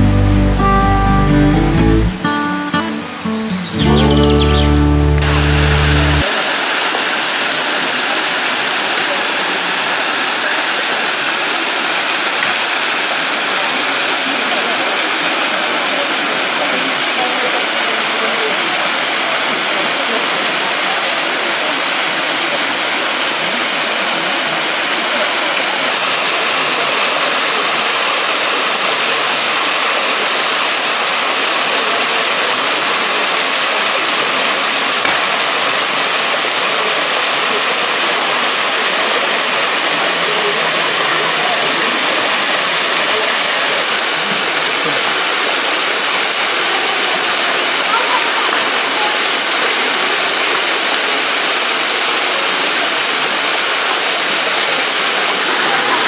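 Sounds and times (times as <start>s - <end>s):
waterfall splashing into pool: 5.1s - 56.0s.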